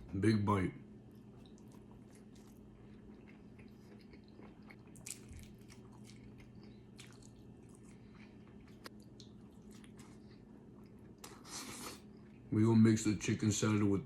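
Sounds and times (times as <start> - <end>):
faint low hum: 0.0 - 14.0
person chewing food: 1.0 - 12.5.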